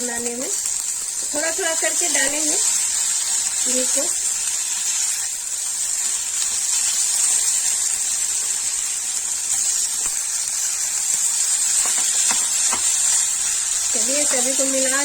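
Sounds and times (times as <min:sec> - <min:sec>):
ginger sizzling in ghee: 0:00.0 - 0:15.0.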